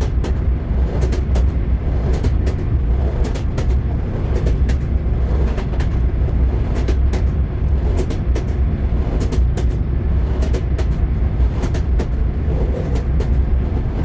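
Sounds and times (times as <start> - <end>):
low rumble of running train: 0.0 - 14.0
train wheels clattering over rail joints: 0.0 - 14.0.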